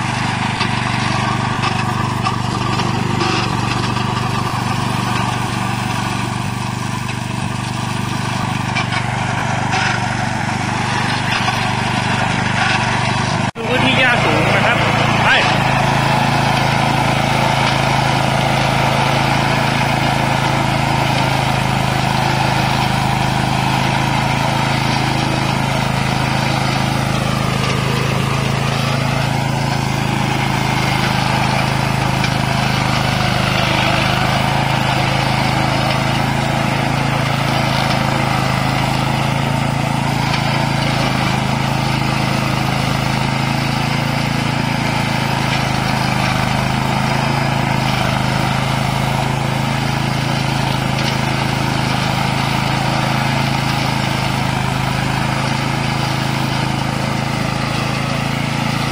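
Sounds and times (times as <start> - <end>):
petrol mower engine running: 0.0 - 58.9.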